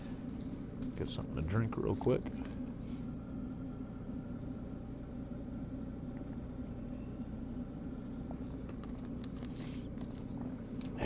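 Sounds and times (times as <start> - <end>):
air heater humming: 0.0 - 11.0.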